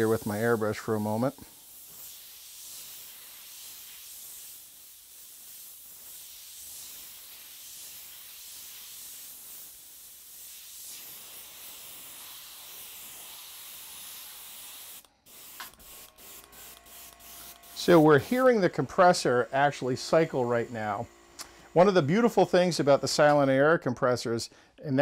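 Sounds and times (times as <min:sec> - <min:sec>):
airbrush hissing: 0:00.0 - 0:23.5.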